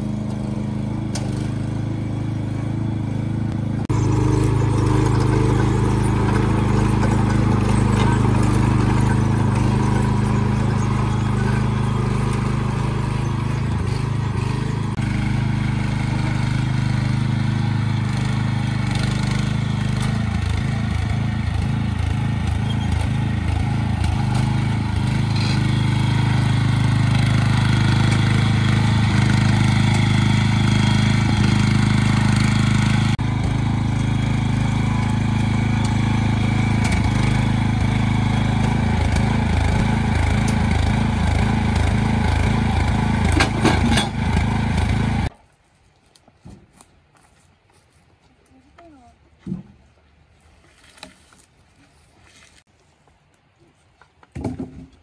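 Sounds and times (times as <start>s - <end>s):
small engine running: 0.0s - 45.3s.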